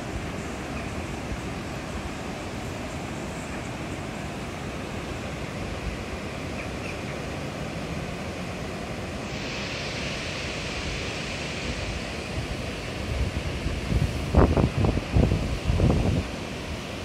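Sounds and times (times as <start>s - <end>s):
river water pouring over weir: 0.0s - 17.0s.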